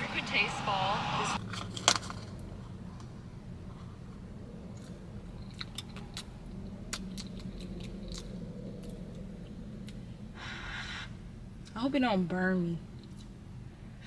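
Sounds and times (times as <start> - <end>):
low hum in car: 0.0 - 14.0.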